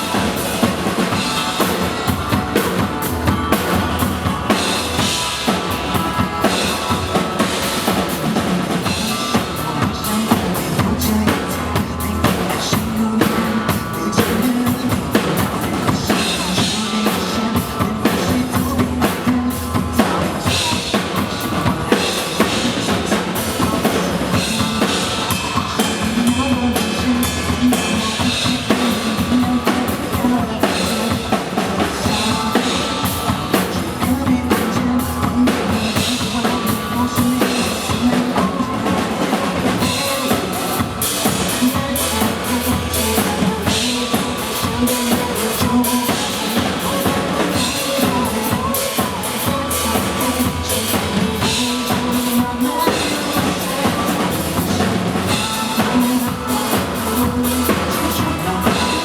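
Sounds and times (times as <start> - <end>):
music with drum kit beat: 0.0 - 59.0.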